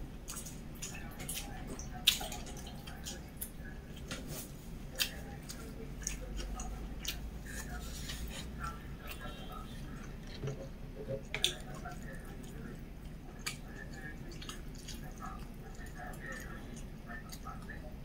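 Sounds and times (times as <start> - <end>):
person chewing: 0.2 - 17.8.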